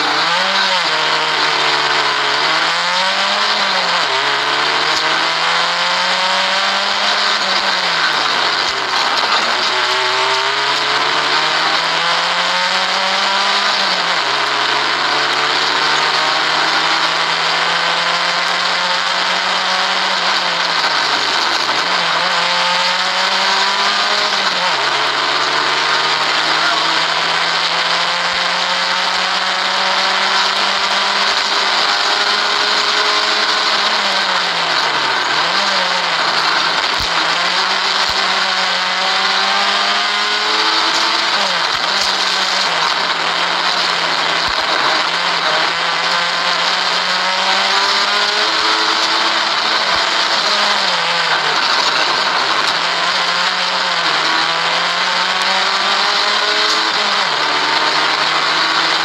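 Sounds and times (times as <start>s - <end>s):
rally car engine at high revs: 0.0s - 59.0s.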